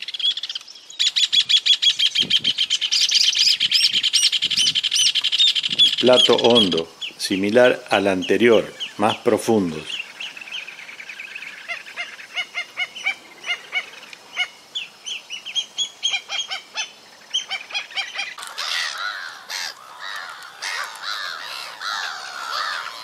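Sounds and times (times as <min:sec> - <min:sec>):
birds calling: 0:00.0 - 0:23.0.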